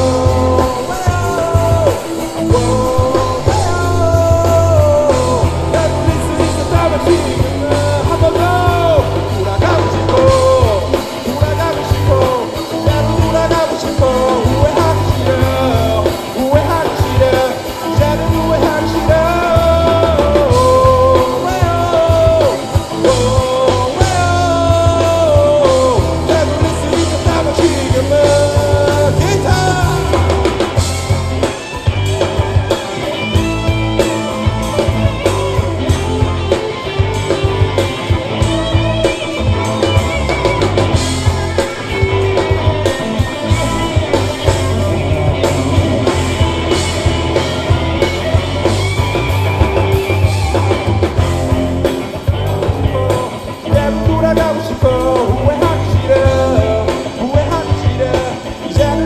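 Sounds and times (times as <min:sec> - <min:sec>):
bass guitar: 0:00.0 - 0:59.0
drum kit beat with cymbals: 0:00.0 - 0:59.0
electric guitars: 0:00.0 - 0:59.0.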